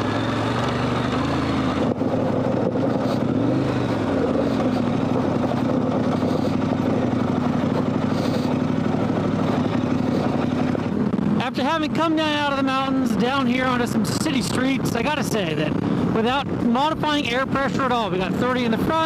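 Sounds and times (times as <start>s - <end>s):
motorcycle engine climbing a hill: 0.0s - 19.0s.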